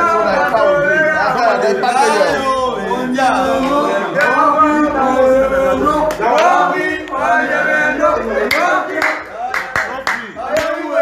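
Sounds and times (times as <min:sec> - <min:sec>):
men singing together: 0:00.0 - 0:11.0.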